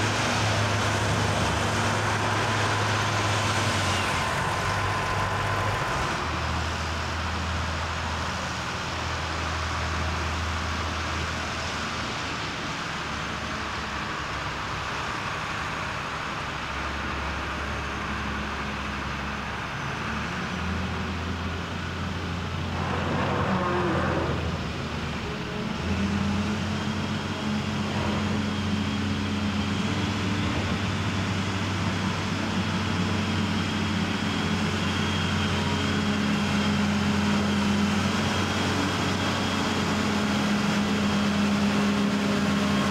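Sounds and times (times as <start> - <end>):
diesel engine droning: 0.0 - 42.9.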